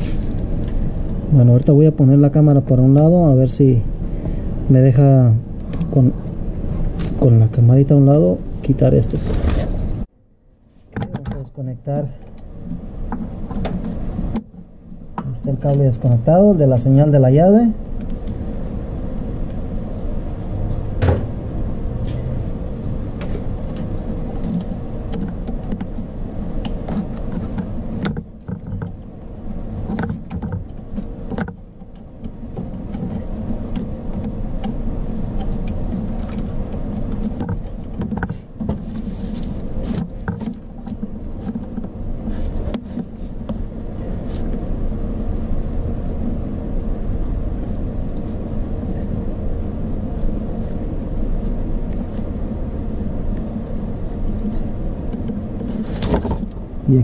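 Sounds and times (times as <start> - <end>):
low rumble with hum: 0.0 - 57.0.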